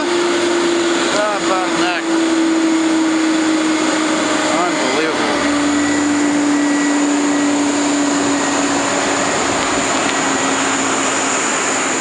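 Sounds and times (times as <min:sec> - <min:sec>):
bus engine whining: 0:00.0 - 0:12.0.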